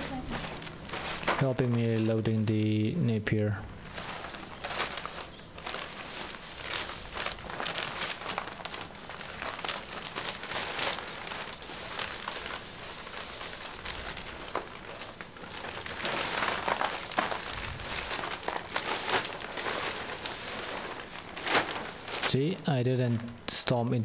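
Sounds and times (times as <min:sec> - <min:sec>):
grass and plastic bag rustling: 0:00.0 - 0:23.7.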